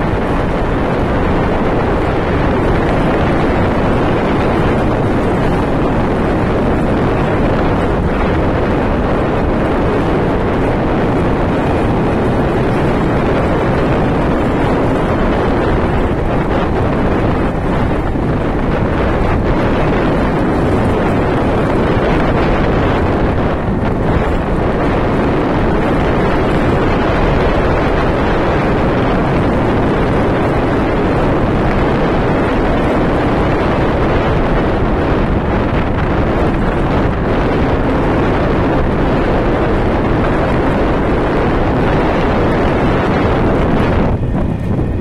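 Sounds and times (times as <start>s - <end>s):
freight train wheels rumbling: 0.0s - 45.0s
wind rushing on microphone: 0.0s - 45.0s.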